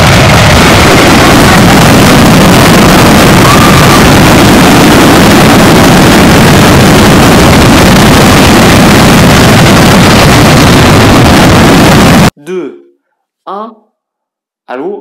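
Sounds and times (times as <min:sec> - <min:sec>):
dense fireworks explosions: 0:00.0 - 0:12.3.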